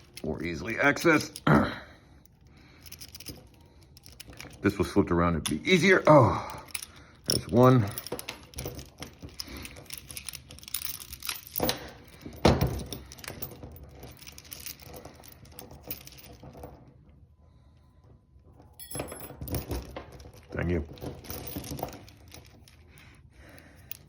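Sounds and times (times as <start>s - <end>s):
chain and padlocks rattling: 0.0s - 17.0s, 18.5s - 24.0s.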